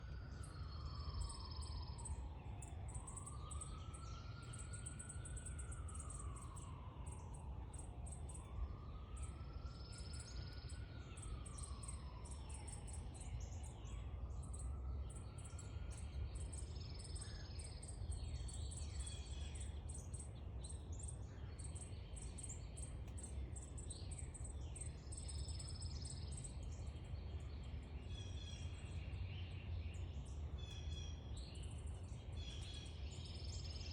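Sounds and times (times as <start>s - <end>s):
sparrows chirping: 0.4s - 33.9s.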